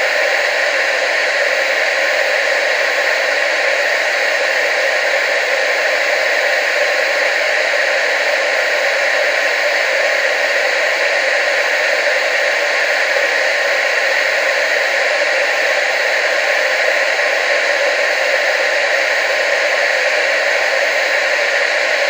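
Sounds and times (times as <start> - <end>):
tv static hiss: 0.0 - 22.0.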